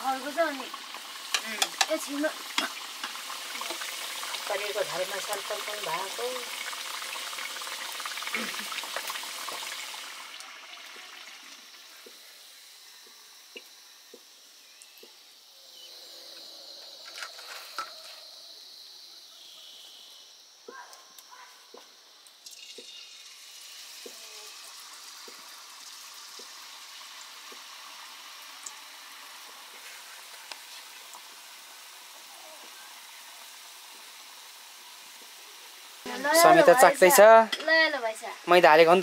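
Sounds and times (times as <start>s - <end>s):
batter sizzling in hot oil: 0.0s - 15.8s, 16.8s - 39.0s.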